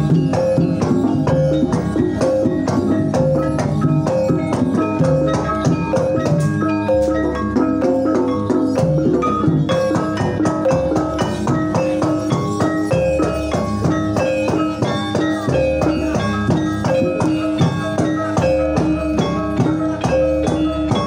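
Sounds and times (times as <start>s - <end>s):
drum: 0.0s - 21.0s
gamelan ensemble playing: 0.0s - 21.0s.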